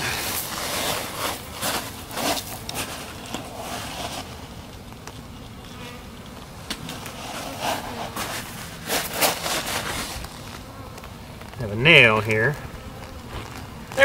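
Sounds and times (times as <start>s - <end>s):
footsteps on gravel: 0.0s - 5.2s, 6.5s - 14.0s
honeybees buzzing: 0.0s - 14.0s.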